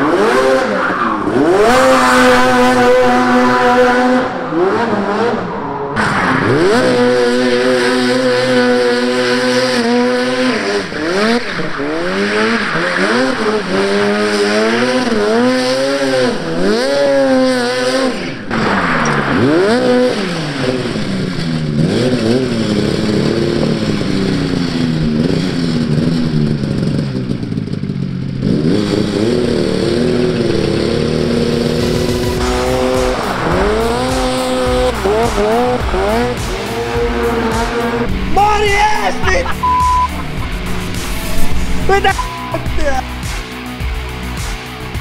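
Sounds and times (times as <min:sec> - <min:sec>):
two-stroke engine revving: 0:00.0 - 0:45.0.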